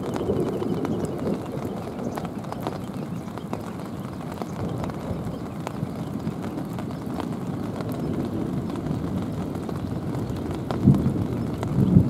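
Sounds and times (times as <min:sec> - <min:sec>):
raindrops tapping: 0:00.0 - 0:12.0
thunder rumbling: 0:00.0 - 0:12.0.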